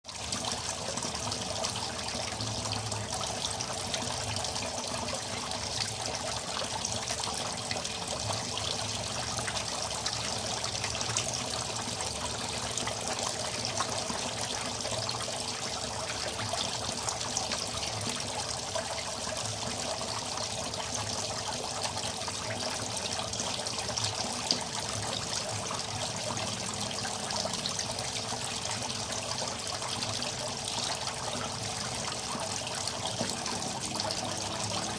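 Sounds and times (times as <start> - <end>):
water trickling into a pond: 0.0 - 34.9.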